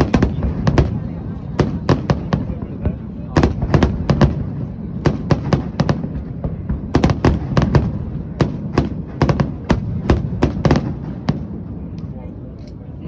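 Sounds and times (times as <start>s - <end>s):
fireworks bangs: 0.0s - 11.9s.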